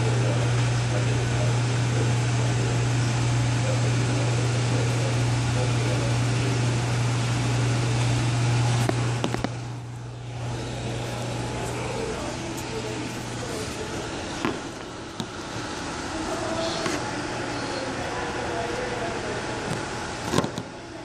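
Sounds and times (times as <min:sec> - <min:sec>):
air conditioning hum and hiss: 0:00.0 - 0:21.0.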